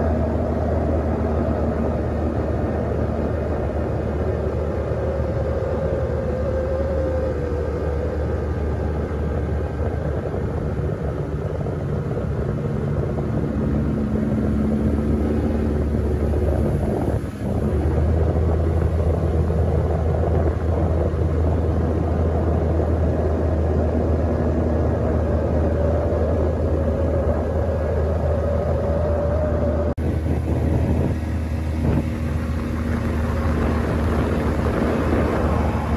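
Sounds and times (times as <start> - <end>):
outboard motor running: 0.0 - 35.9.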